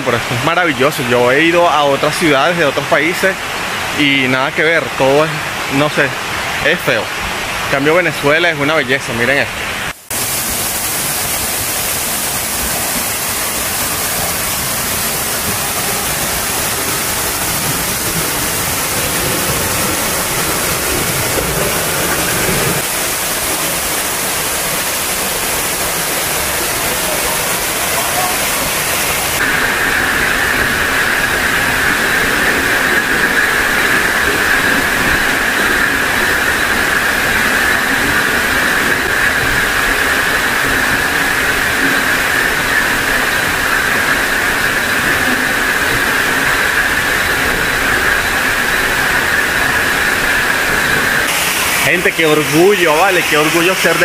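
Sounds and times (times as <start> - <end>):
waterfall rushing over rock: 0.0 - 54.0.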